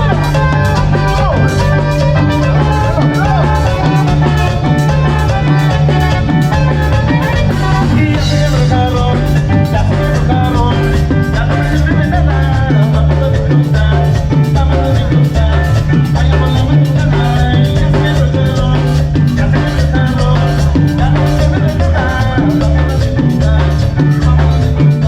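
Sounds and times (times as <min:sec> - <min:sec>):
live band music: 0:00.0 - 0:25.0
percussion beat: 0:00.0 - 0:25.0.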